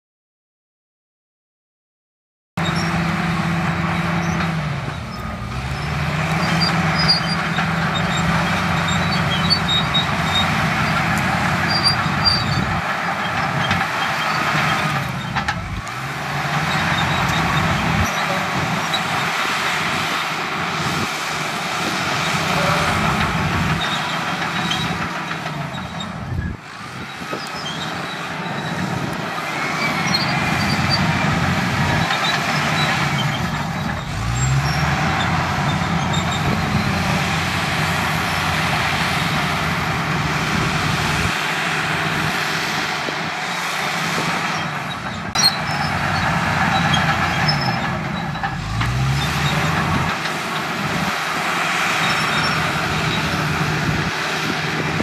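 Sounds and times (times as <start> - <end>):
bulldozer diesel engine under load: 2.6 - 55.0.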